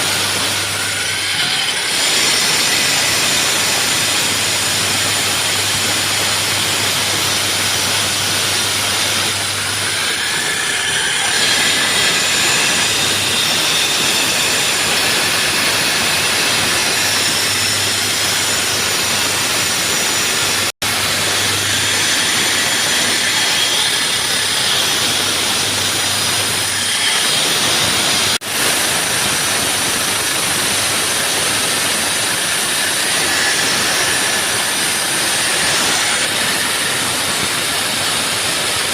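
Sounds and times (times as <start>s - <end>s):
concrete saw grinding: 0.0s - 38.9s.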